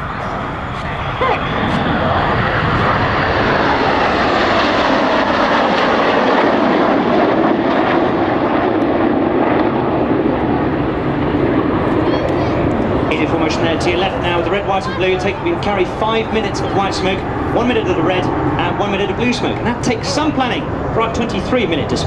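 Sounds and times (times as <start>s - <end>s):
jets flying past: 0.0s - 22.0s.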